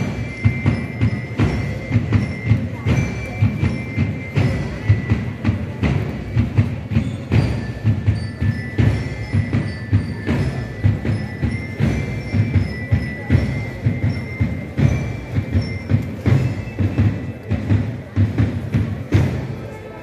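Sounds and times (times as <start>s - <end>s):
regular drum beats: 0.0s - 20.0s.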